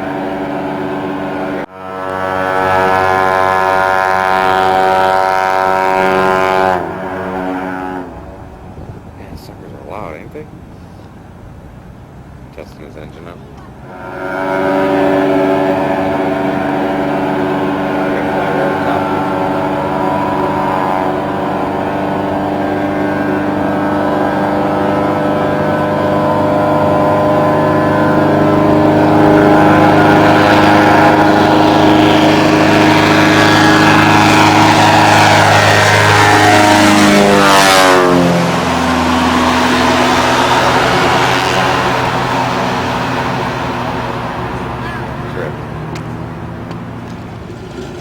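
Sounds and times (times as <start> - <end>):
propeller plane engine passing: 0.0 - 48.0.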